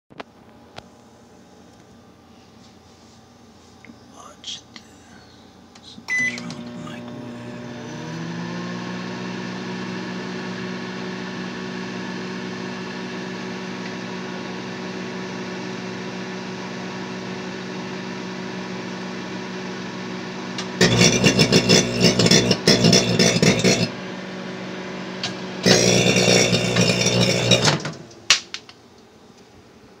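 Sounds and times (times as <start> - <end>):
microwave oven humming: 4.2 - 28.4.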